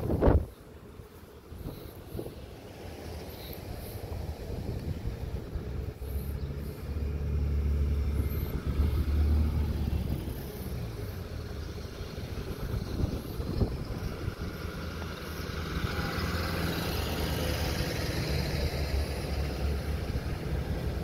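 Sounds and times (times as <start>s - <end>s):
car approaching: 0.0s - 21.0s
pickup truck driving past: 2.2s - 21.0s.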